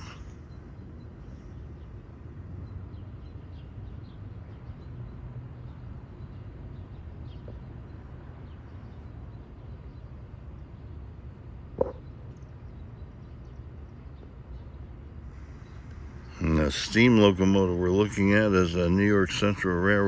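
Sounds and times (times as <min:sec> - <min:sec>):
faint bird chirps: 0:00.0 - 0:11.0, 0:11.7 - 0:20.0
steady low rumble: 0:00.0 - 0:20.0.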